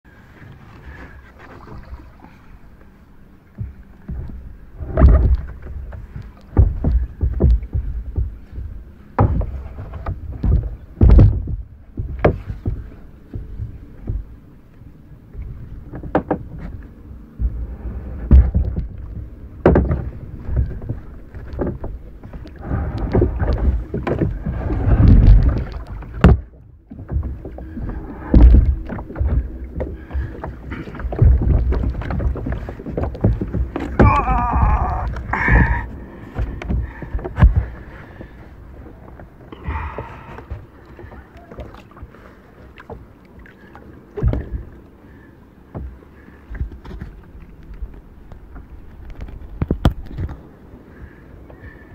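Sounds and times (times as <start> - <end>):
knocks and thumps on kayak hull: 3.5 - 43.5, 44.1 - 44.8, 45.6 - 51.9.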